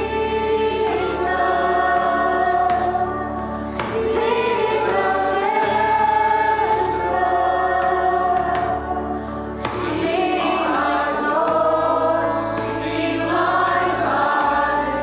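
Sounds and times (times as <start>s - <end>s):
congregation singing worship song: 0.0s - 15.0s
instrumental accompaniment: 0.0s - 15.0s.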